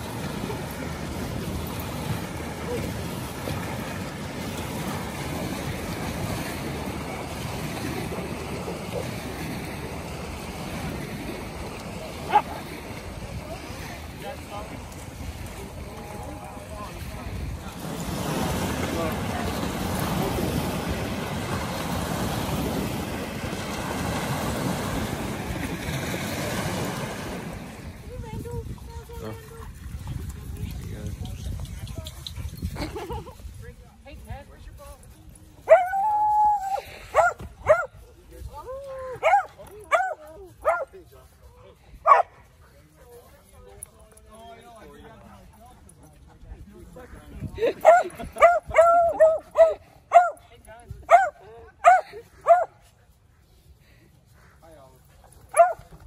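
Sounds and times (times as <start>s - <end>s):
wind noise on microphone: 0.0s - 40.8s, 46.3s - 52.8s
small waves lapping at shore: 0.0s - 56.0s.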